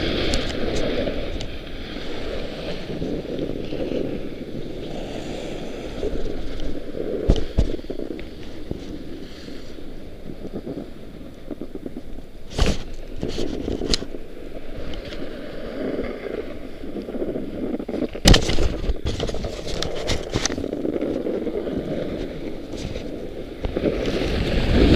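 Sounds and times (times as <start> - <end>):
snowboard scraping over snow: 0.0 - 24.9
wind on microphone: 0.0 - 24.9.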